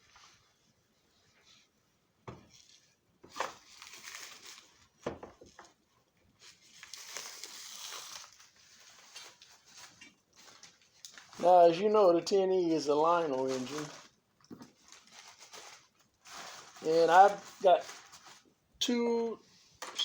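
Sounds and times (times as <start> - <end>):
rustling and crinkling: 0.0 - 18.7.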